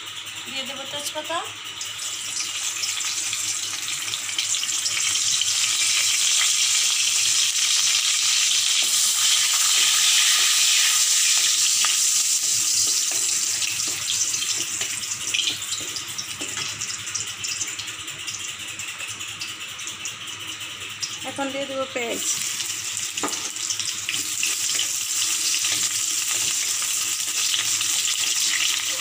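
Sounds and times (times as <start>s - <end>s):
leaves sizzling in hot oil: 0.5s - 29.0s.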